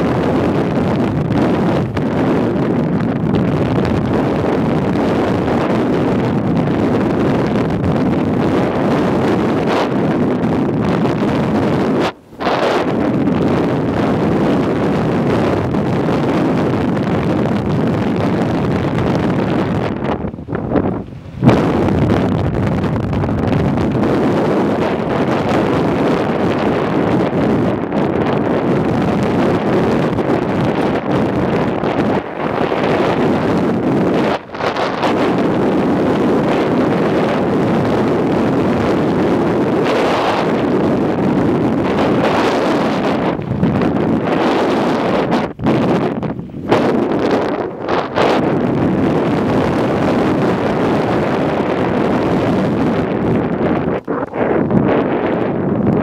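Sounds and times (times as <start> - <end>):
rush of bike ride: 0.0 - 56.0
wind buffeting microphone: 0.0 - 56.0.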